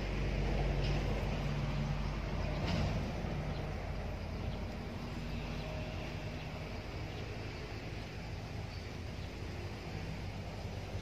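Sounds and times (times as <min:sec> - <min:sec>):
low motor hum: 0:00.0 - 0:11.0
outdoor hiss: 0:00.0 - 0:11.0.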